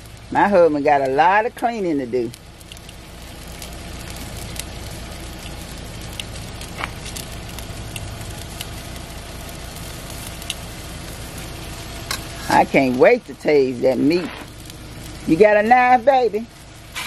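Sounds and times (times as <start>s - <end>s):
meat sizzling on charcoal grill: 0.0s - 17.0s.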